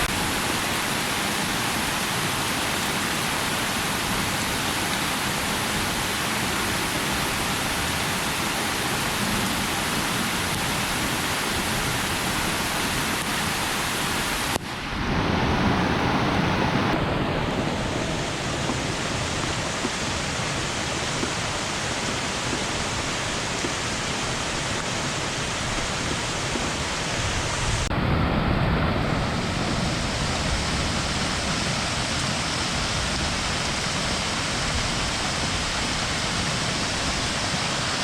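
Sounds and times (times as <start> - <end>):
rushing water: 0.0 - 38.0.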